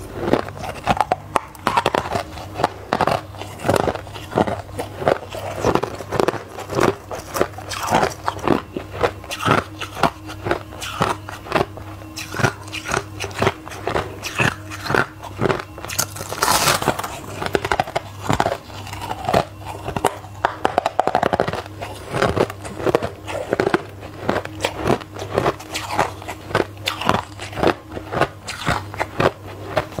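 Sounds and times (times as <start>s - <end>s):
chewing crunchy ice: 0.0s - 30.0s
faint low hum: 0.0s - 30.0s.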